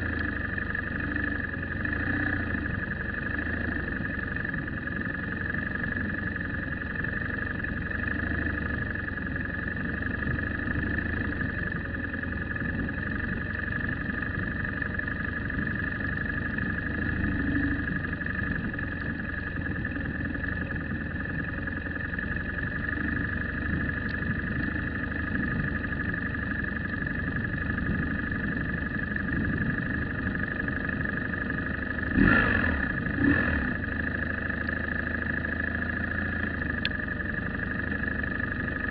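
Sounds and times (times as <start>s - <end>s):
car engine and road rumble: 0.0s - 38.9s
constant high whine: 0.0s - 38.9s.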